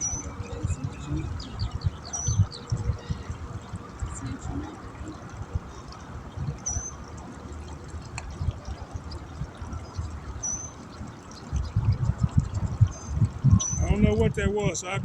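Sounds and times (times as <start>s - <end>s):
low rumbling thumps: 0.0s - 6.8s, 7.7s - 15.0s
water trickling and pouring: 0.0s - 15.0s.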